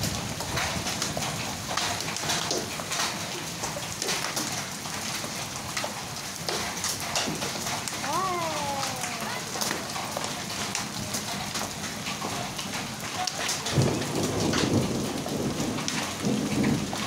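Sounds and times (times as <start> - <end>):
hailstones ticking: 0.0 - 17.0
rain hissing: 0.0 - 17.0.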